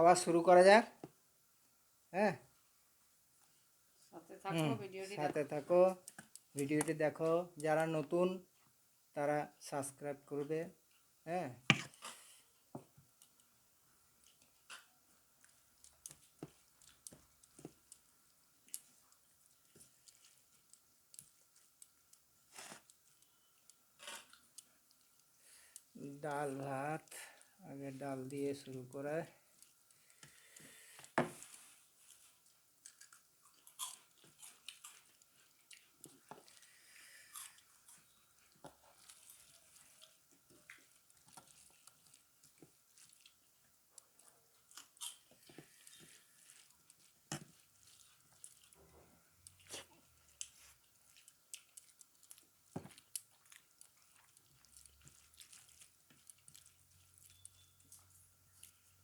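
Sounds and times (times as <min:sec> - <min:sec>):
soft chewing: 0:02.4 - 0:09.2, 0:10.7 - 0:59.0.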